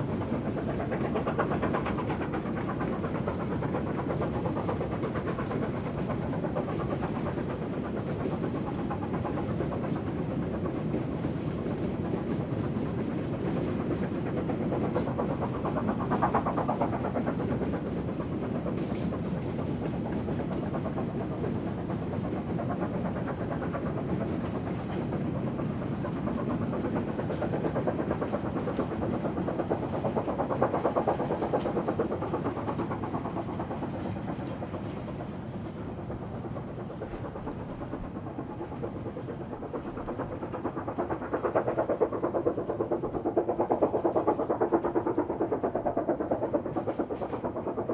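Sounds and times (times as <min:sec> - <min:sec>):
steam locomotive running: 0:00.0 - 0:47.9.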